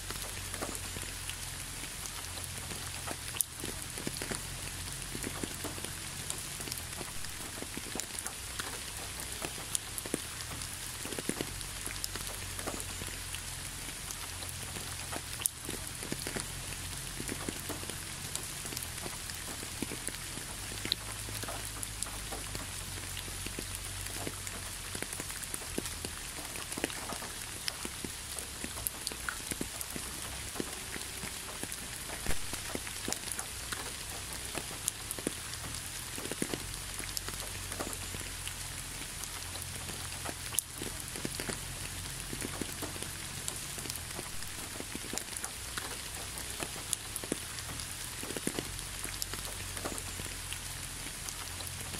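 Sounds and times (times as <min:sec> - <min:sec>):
rain pattering on leaves and road: 0:00.0 - 0:51.9
single raindrops ticking: 0:00.0 - 0:51.9.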